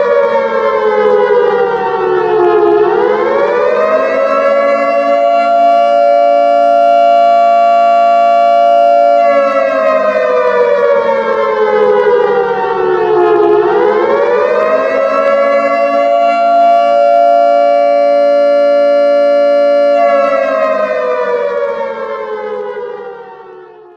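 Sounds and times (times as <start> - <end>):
siren wailing: 0.0 - 23.9.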